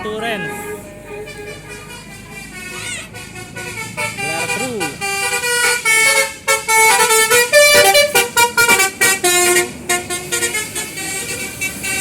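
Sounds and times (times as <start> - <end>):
bus melody horn: 0.0 - 12.0.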